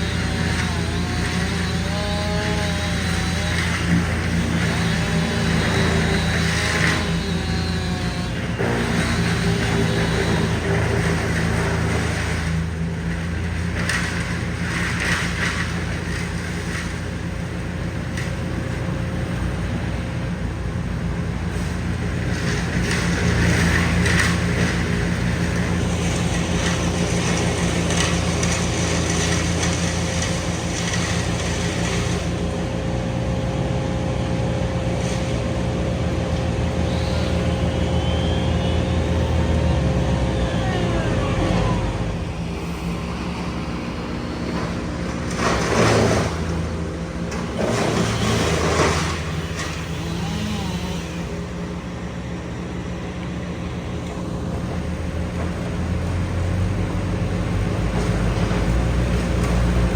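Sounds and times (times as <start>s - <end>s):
heavy machinery engine running: 0.0s - 59.9s.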